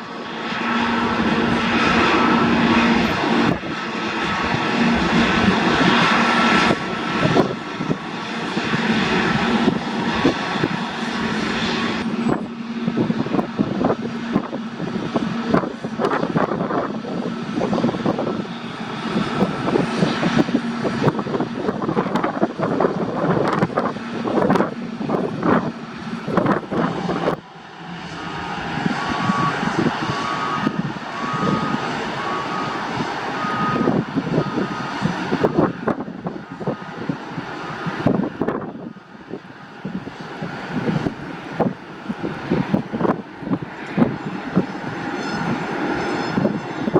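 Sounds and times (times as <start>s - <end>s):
airliner engines rumbling: 0.0s - 46.9s
higher engine whine: 0.0s - 46.9s.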